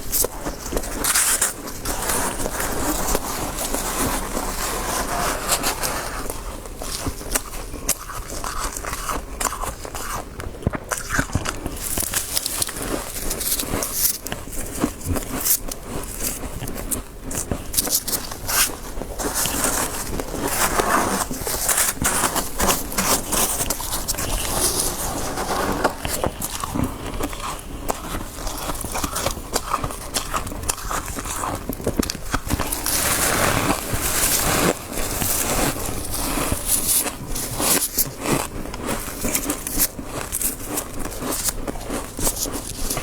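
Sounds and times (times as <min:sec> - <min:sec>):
crunching frost being chewed: 0:00.0 - 0:43.0.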